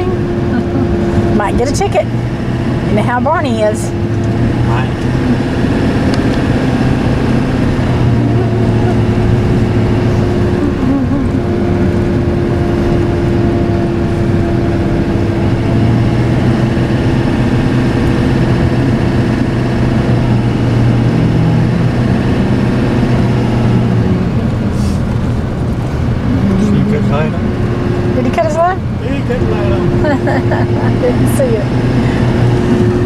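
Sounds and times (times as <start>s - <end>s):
road and tyre noise: 0.0s - 33.0s
truck engine drone: 0.0s - 33.0s.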